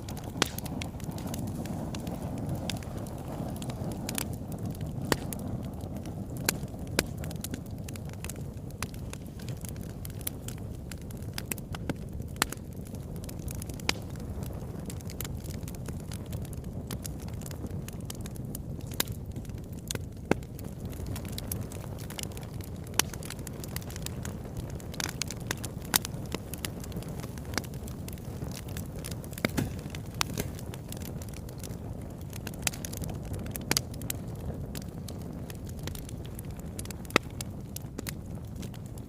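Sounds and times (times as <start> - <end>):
burning logs crackling: 0.0 - 39.0
fire flames rushing: 0.0 - 39.0.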